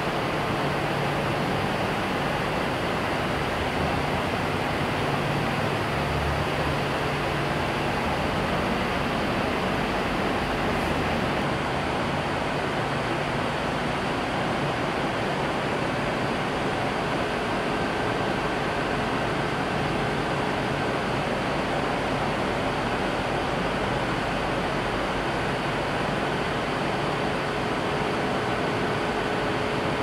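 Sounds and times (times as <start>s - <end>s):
cooling fans rushing air: 0.0s - 30.0s.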